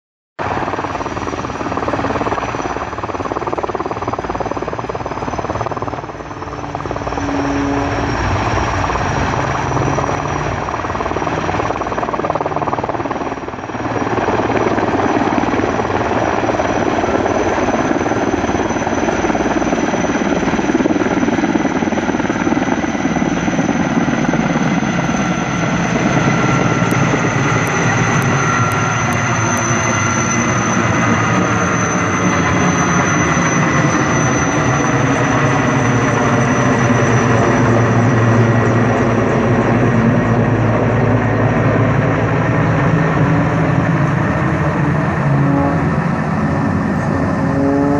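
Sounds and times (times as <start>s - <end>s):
helicopter rotor noise: 0.4s - 47.9s
turbines whining: 0.4s - 47.9s.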